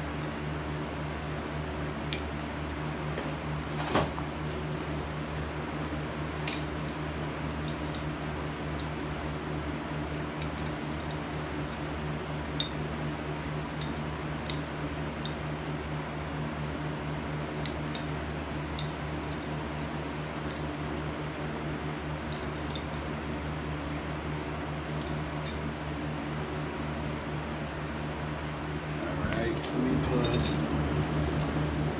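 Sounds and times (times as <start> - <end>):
air compressor humming: 0.0 - 31.9.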